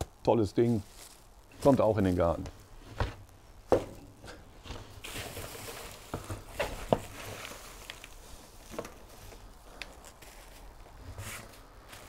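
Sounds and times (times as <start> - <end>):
straw rustling and crackling: 0.0 - 12.0.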